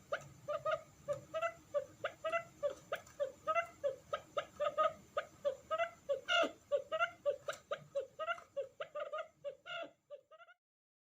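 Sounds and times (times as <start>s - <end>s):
quail chirping calls: 0.0s - 10.6s.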